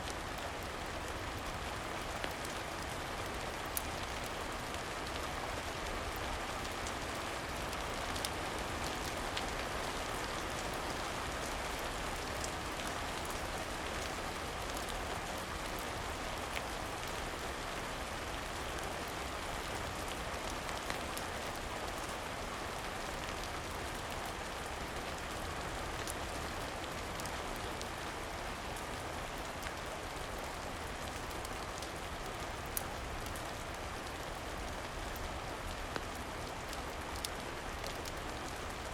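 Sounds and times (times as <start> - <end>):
steady rain falling: 0.0 - 38.9
wood fire crackling: 0.1 - 17.3, 19.5 - 38.9.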